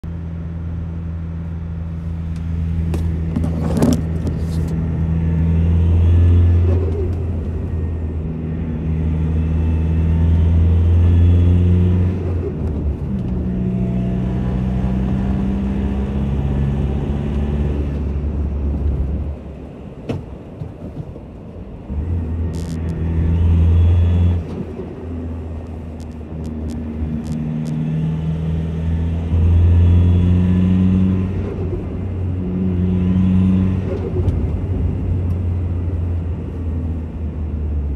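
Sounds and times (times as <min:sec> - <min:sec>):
diesel truck engine revving: 0:02.4 - 0:19.4, 0:21.9 - 0:37.9.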